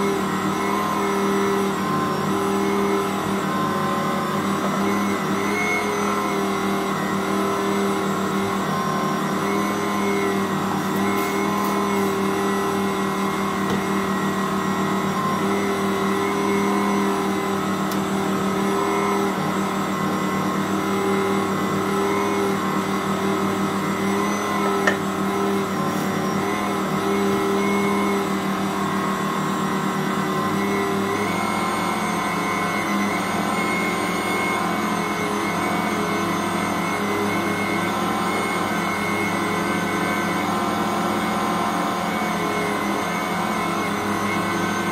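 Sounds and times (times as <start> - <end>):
stand mixer motor humming: 0.0 - 44.9.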